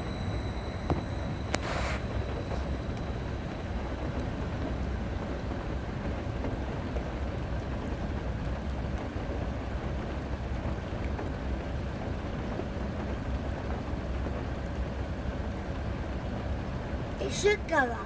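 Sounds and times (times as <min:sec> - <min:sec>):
rain on car bodywork: 0:00.8 - 0:17.6.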